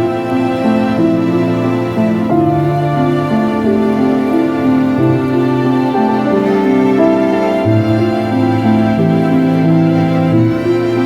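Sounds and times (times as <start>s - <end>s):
slow gentle instrumental music: 0.0s - 11.0s.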